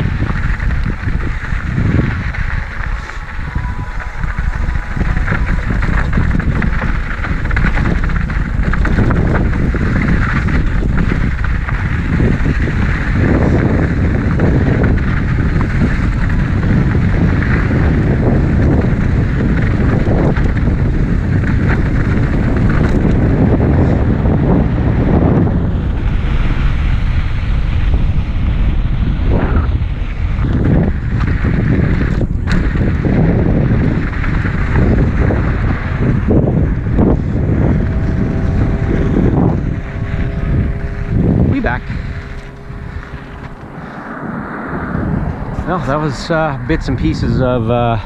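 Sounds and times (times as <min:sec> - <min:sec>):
bike tyres rolling on dirt: 0:00.0 - 0:48.0
wind rushing over microphone: 0:00.0 - 0:48.0.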